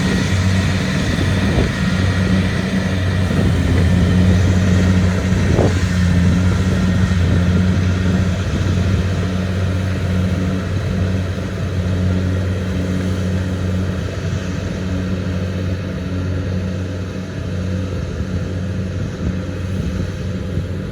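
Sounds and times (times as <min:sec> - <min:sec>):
combine harvester running: 0:00.0 - 0:20.9
diesel engine low hum: 0:00.0 - 0:20.9.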